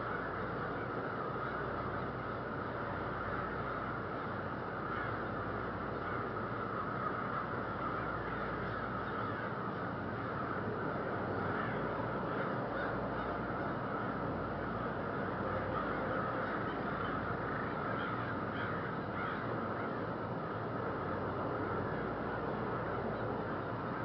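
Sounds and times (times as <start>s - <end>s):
crows cawing: 0.0s - 24.0s
steady background noise: 0.0s - 24.0s.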